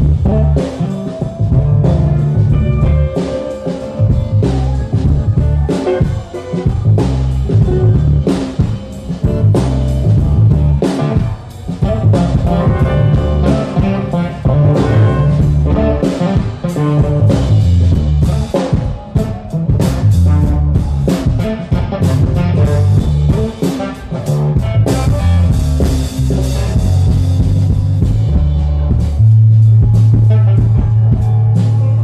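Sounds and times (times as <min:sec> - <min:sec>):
blues-rock band playing: 0:00.0 - 0:32.0
drum kit hits: 0:00.0 - 0:32.0.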